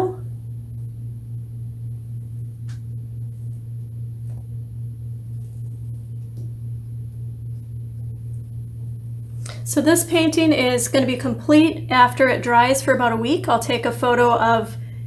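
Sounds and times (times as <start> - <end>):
low-pitched hum: 0.0 - 15.0.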